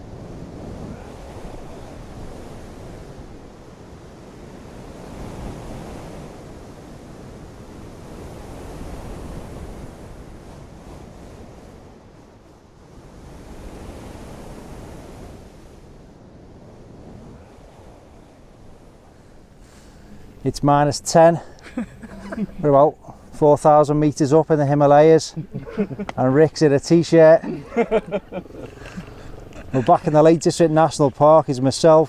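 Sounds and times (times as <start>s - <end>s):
wind gusting over microphone: 0.0s - 32.0s.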